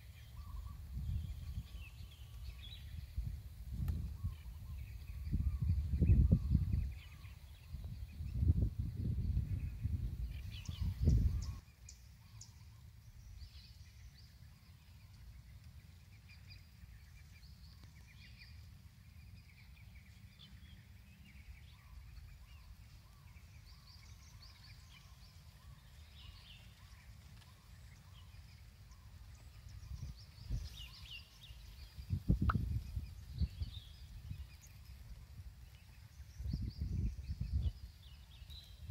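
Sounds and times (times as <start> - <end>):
small birds chirping: 0.0 - 38.9
wind rumbling on microphone: 0.0 - 38.9.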